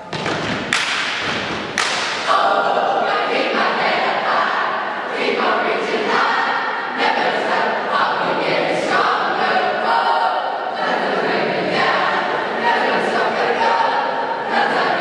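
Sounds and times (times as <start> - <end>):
group singing and chanting: 1.8 - 15.0.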